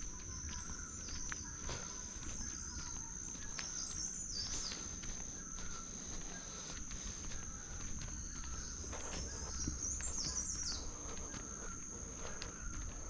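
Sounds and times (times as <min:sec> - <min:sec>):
insects droning: 0:00.0 - 0:13.0
soft footsteps: 0:00.0 - 0:13.0.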